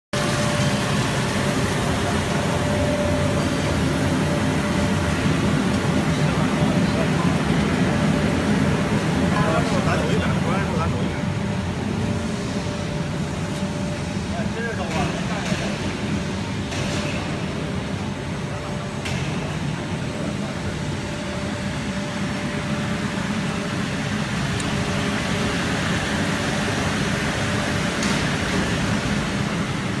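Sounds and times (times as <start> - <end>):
washing machine running: 0.1 - 30.0.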